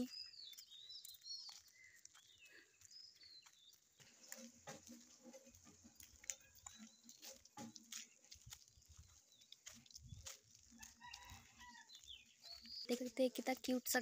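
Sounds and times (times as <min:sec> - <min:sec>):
faint birds chirping: 0:00.0 - 0:14.0
soft footsteps on road: 0:00.0 - 0:14.0.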